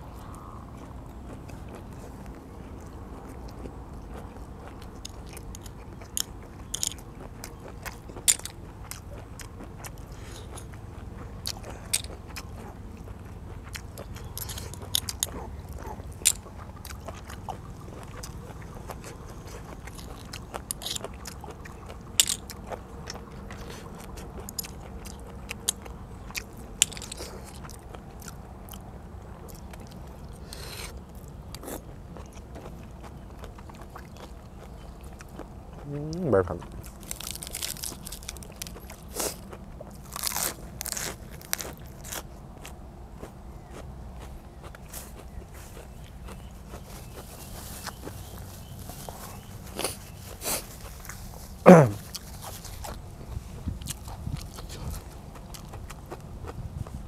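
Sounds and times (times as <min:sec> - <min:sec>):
close chewing: 0:00.0 - 0:57.0.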